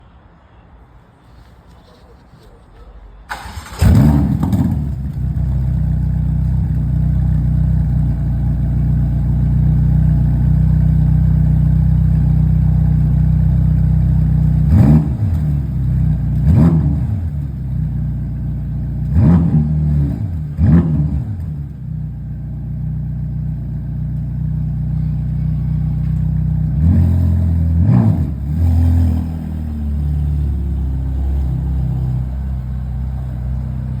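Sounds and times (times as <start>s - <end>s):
engine throttle blips: 3.3s - 34.0s
car exhaust idling: 3.8s - 31.5s.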